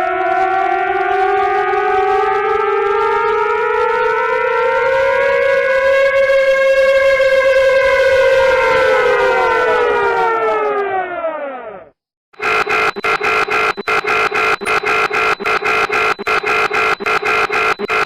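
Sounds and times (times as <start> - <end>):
reversed siren wail: 0.0 - 18.0.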